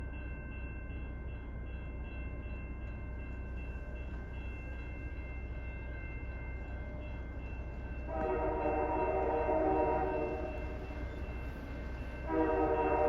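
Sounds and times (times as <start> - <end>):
locomotive bell ringing: 0.0 - 13.0
train rumble: 0.0 - 13.0.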